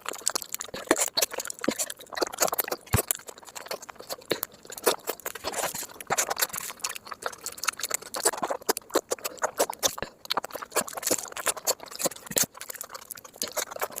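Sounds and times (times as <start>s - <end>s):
wet chewing and lip smacks: 0.0s - 14.0s.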